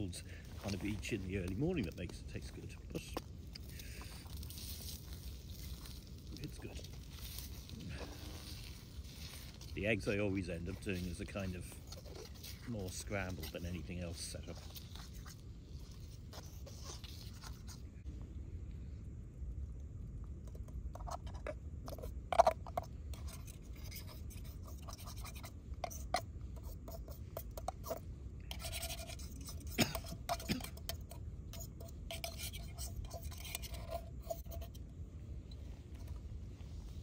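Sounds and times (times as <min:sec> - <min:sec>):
utensil scraping camping pan: 0:00.0 - 0:18.0, 0:20.4 - 0:34.9.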